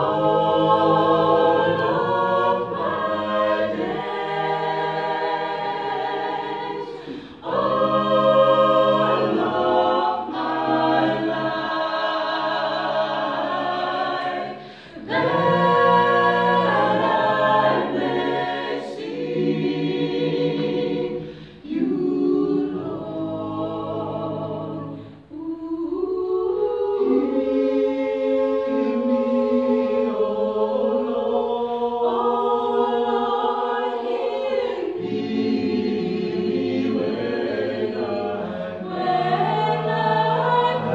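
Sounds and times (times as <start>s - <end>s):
group singing a cappella: 0.0s - 40.9s.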